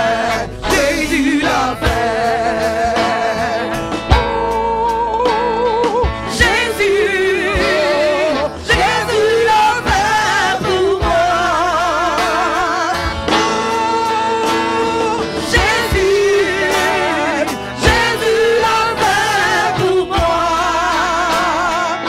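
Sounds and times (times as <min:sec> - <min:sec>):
instrumental backing music: 0:00.0 - 0:22.0
woman singing gospel into microphone: 0:00.0 - 0:22.0.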